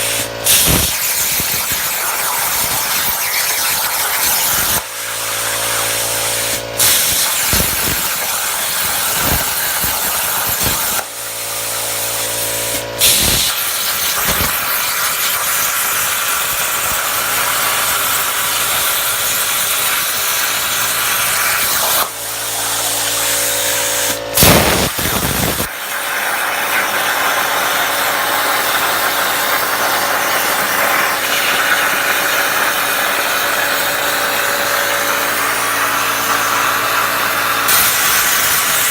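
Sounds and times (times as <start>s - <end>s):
plasma cutter hissing: 0.0s - 38.9s.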